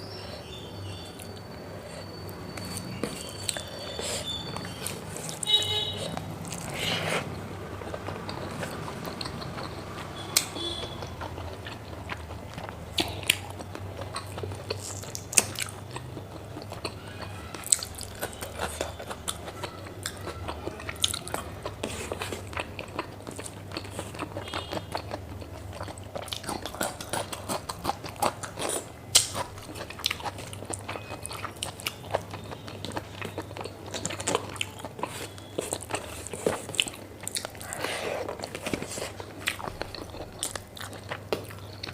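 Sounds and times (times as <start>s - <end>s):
chewing and biting: 2.6s - 41.9s.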